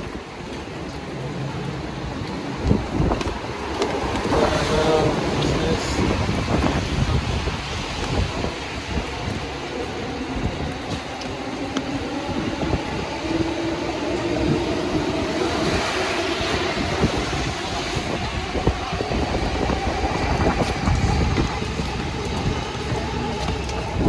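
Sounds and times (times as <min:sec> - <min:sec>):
train running past: 0:00.0 - 0:24.0
wet city noise: 0:00.0 - 0:24.0.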